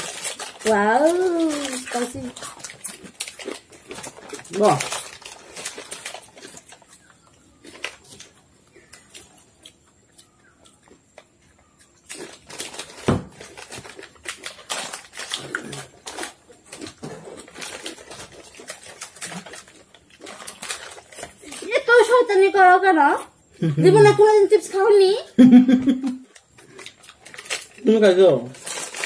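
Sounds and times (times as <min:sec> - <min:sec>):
plastic snack packets crinkling: 0:00.0 - 0:10.5, 0:11.2 - 0:22.6, 0:26.2 - 0:29.0
crunching and chewing crackers: 0:00.0 - 0:22.6, 0:26.0 - 0:29.0.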